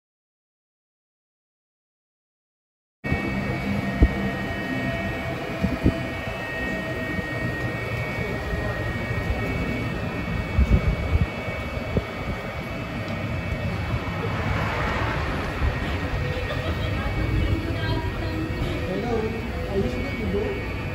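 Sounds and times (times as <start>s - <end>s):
mechanical hum of moving walkways: 3.1s - 20.9s.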